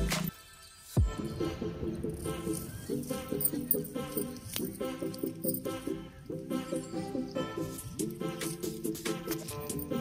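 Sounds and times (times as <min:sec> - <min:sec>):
repeating melody over a beat: 0:01.0 - 0:10.0.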